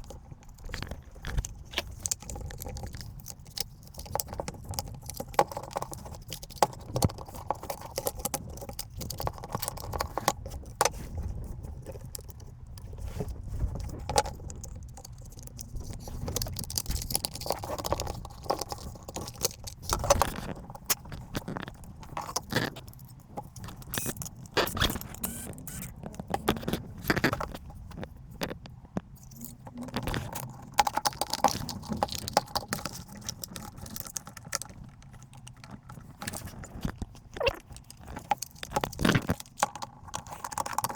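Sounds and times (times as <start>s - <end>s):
small parts clicking and scraping: 0.0s - 40.9s.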